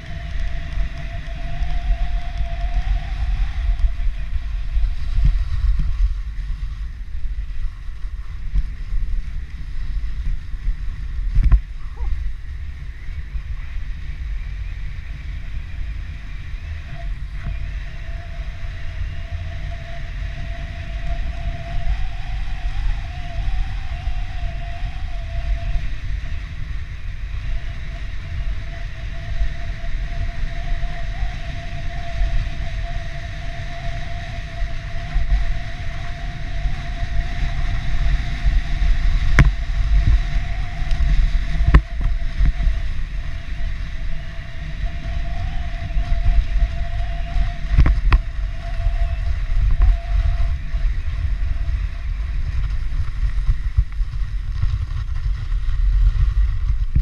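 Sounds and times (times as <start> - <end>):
faint wavering whine: 0.0 - 57.0
wind rumble on microphone: 0.0 - 57.0.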